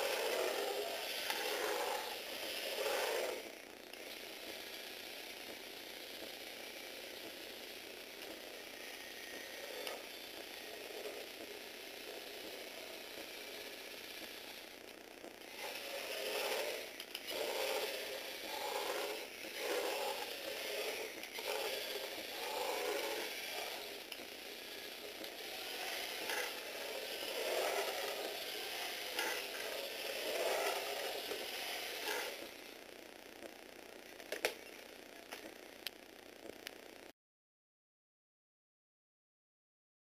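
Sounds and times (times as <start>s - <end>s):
electric motor whirring through gears: 0.0s - 37.1s.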